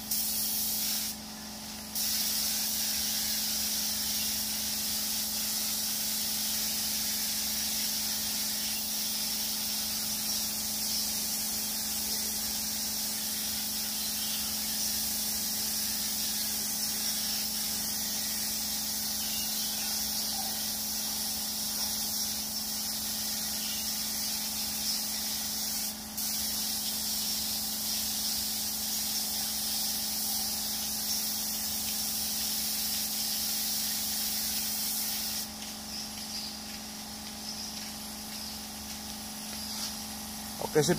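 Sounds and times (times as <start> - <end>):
spray gun hissing: 0.0 - 40.9.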